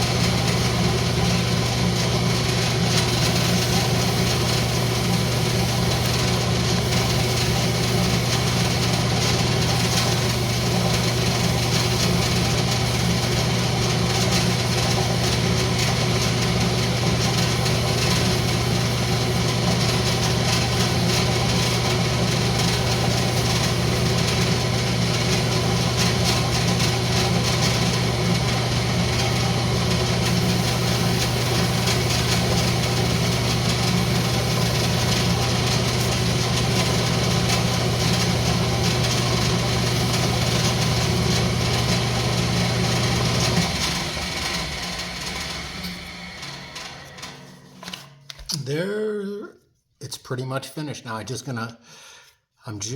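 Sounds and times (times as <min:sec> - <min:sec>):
wood lathe motor humming: 0:00.0 - 0:48.0.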